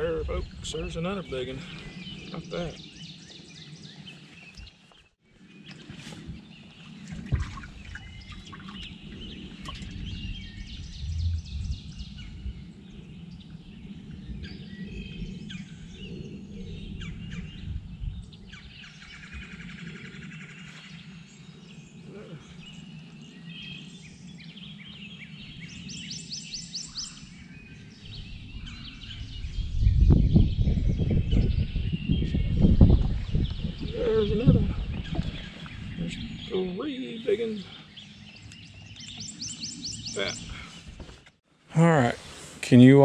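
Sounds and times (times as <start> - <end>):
songbirds singing and calling: 0.0 - 42.1.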